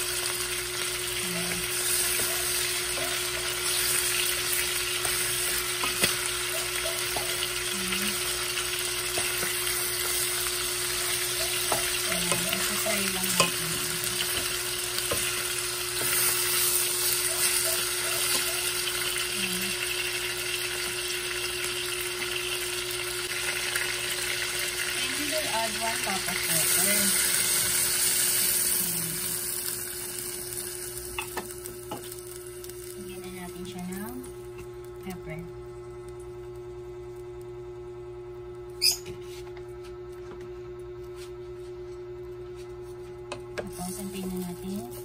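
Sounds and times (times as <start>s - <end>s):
chicken sizzling in a pan: 0.0s - 35.4s, 43.6s - 45.0s.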